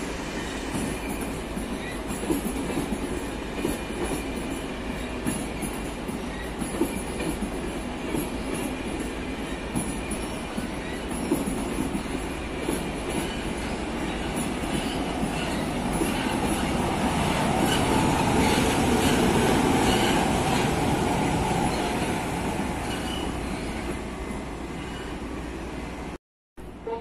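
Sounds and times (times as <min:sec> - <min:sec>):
diesel locomotive: 0:00.0 - 0:27.0
train coaches rolling past: 0:00.0 - 0:27.0.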